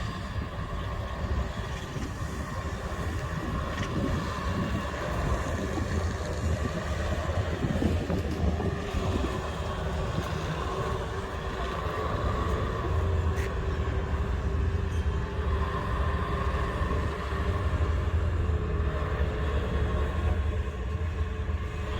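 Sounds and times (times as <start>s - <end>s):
faint steady whines: 0.0s - 21.9s
heavy engine deep drone: 0.0s - 21.9s.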